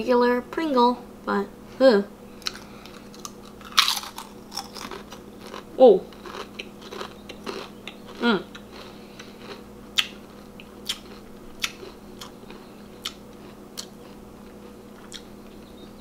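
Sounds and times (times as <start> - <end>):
person crunching crisps: 2.4 - 15.2.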